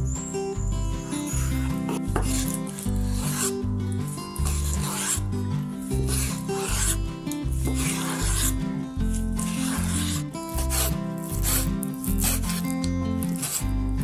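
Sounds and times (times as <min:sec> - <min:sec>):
background music with bass line: 0:00.0 - 0:14.0
rasping scraping strokes: 0:00.0 - 0:14.0.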